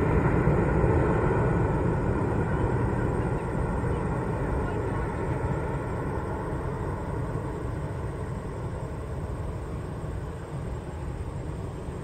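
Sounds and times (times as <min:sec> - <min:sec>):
distant airplane engines rumbling: 0:00.0 - 0:12.0.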